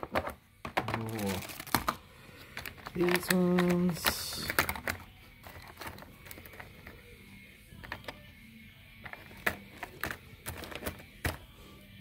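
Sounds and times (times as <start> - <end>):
plastic adapters clicking and tapping: 0.0 - 7.0, 7.8 - 8.3, 9.0 - 11.5.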